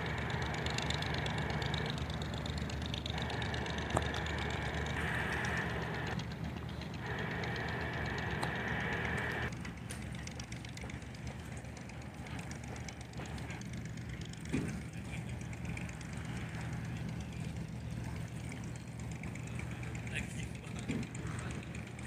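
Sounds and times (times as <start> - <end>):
ship engine droning: 0.0 - 22.0.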